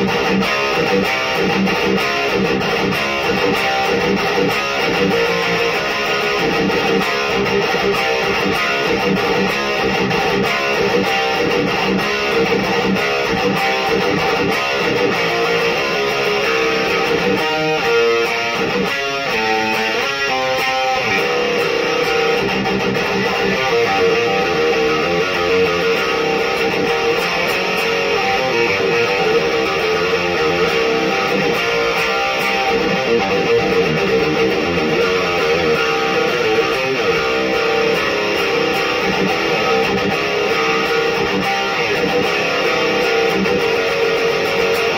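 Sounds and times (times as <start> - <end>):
distorted electric guitar riffing: 0.0 - 44.9.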